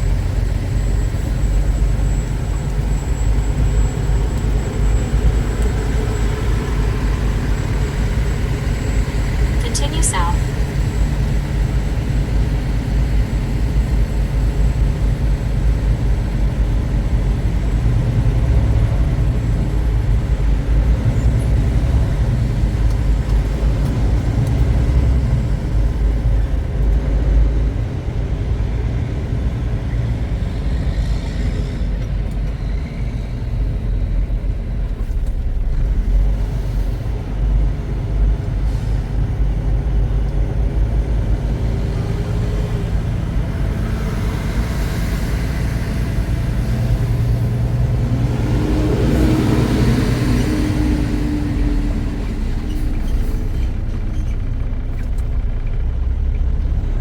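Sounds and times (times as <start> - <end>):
diesel truck engine rumble: 0.0 - 57.0
road noise: 0.0 - 57.0.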